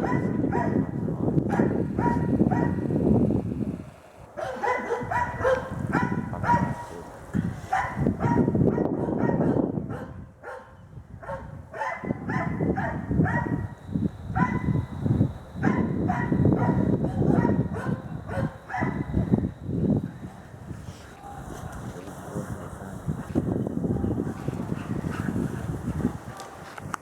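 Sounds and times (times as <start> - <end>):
dogs barking rapidly: 0.0 - 3.1, 4.2 - 20.6, 23.5 - 26.9.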